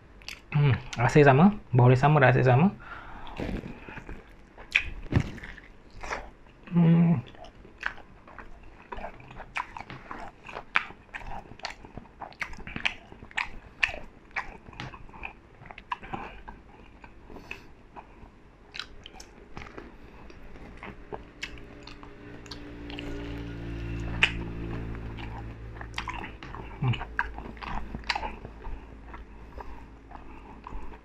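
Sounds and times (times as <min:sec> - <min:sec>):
person chewing crunchy food: 0:03.0 - 0:31.0.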